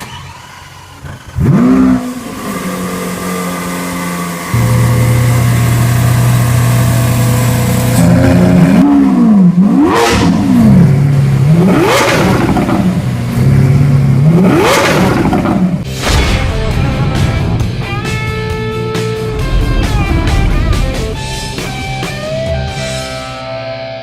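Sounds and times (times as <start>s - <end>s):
car engine idling and revving: 0.0s - 23.6s.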